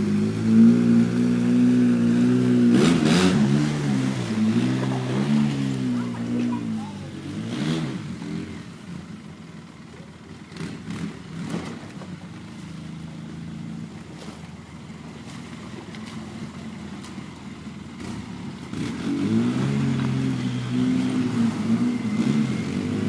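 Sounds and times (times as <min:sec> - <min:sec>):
off-road vehicle engine running: 0:00.0 - 0:23.0.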